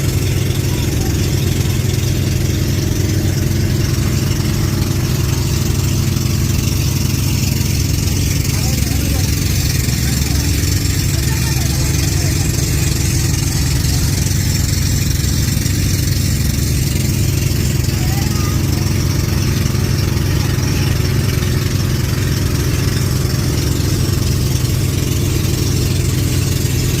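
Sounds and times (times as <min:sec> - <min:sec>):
engine droning steadily: 0:00.0 - 0:27.0.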